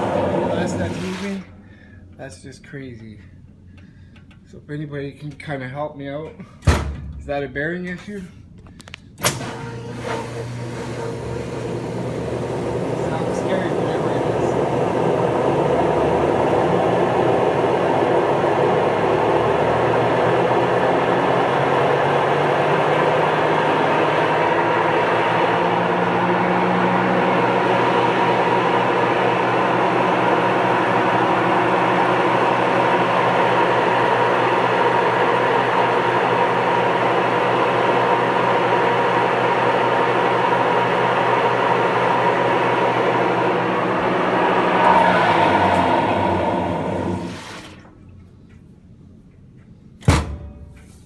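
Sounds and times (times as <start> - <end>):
washing machine running: 0.0 - 1.8, 9.2 - 48.2
washing machine whine: 0.0 - 2.2, 9.2 - 48.6.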